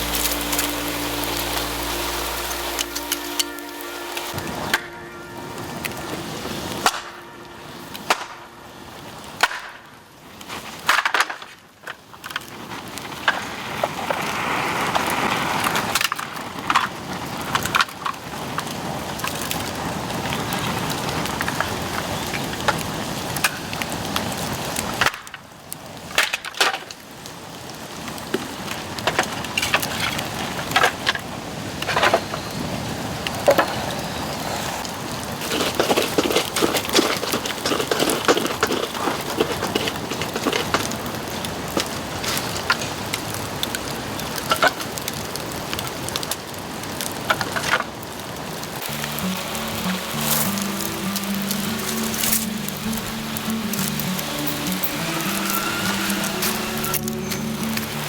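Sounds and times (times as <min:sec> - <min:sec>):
bamboo fire hissing: 0:00.0 - 0:58.0
fire cracking and popping: 0:00.0 - 0:58.0.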